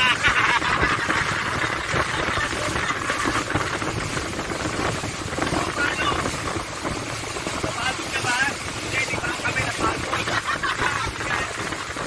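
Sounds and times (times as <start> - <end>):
boat motor running: 0.0 - 12.0
wind and water rushing: 0.0 - 12.0.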